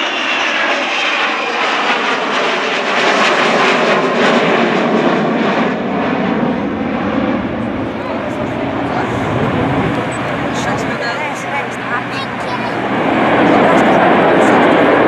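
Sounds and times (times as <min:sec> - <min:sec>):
jet aircraft flying: 0:00.0 - 0:15.0.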